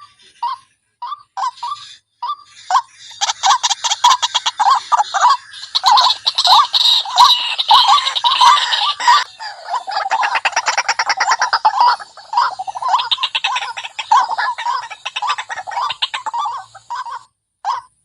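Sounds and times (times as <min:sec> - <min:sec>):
waterhen calling: 0:00.0 - 0:17.9.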